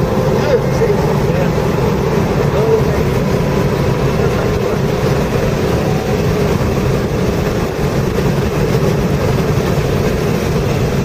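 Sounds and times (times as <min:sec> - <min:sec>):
car engine at full throttle: 0:00.0 - 0:11.0
road and wind noise: 0:00.0 - 0:11.0.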